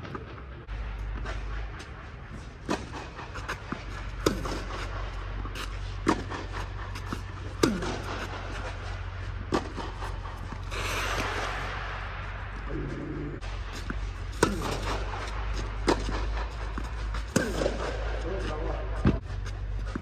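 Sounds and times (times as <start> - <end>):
steady low hum: 0.0 - 20.0
tennis balls bouncing: 1.0 - 11.9, 13.7 - 20.0
tennis rackets striking balls: 1.0 - 12.6, 13.7 - 20.0.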